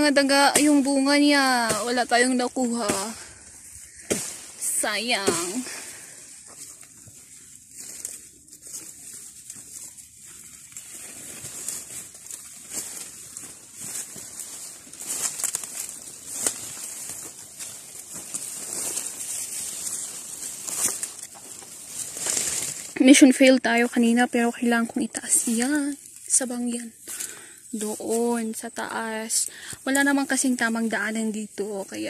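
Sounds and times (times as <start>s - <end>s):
dry leaves rustling and crackling: 0.0s - 32.0s.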